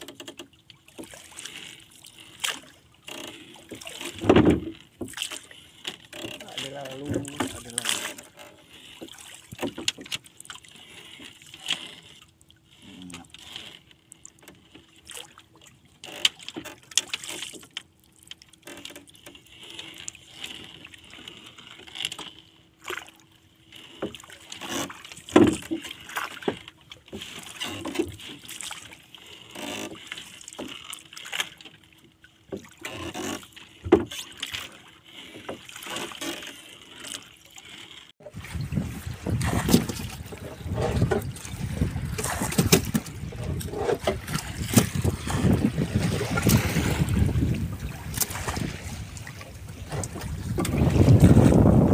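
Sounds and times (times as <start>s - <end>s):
knocks and scrapes on wooden boat: 0.0s - 51.9s
water slapping at hull: 0.0s - 51.9s.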